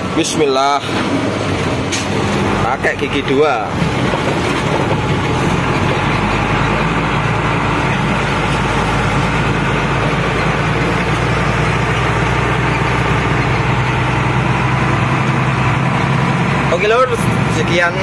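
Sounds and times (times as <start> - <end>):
truck diesel engine from cab: 0.0 - 18.0.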